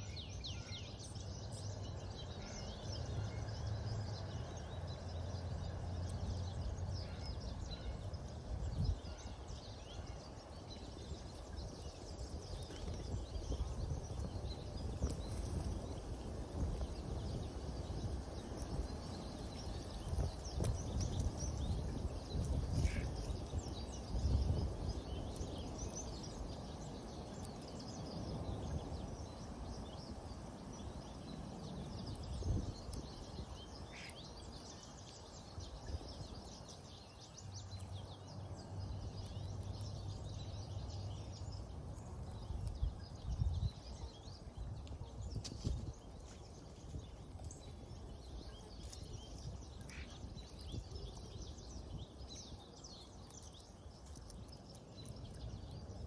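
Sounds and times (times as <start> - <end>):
small birds chirping: 4.4 - 56.0.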